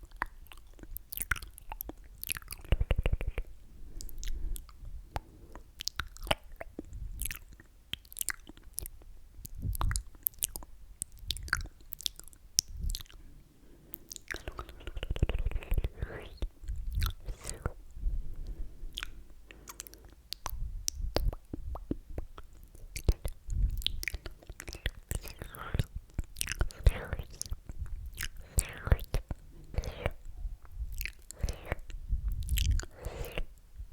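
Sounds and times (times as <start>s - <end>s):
wet lip and tongue clicks: 0.0s - 13.2s, 13.9s - 17.8s, 18.4s - 33.7s.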